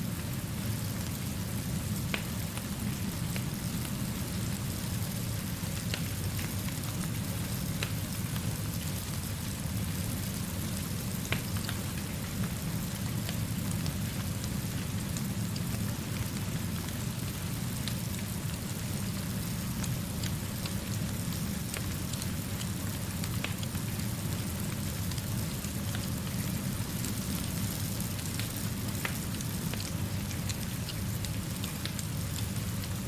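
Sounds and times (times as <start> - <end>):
steady rainfall: 0.0 - 33.0
small ticks and crackles: 1.9 - 33.0.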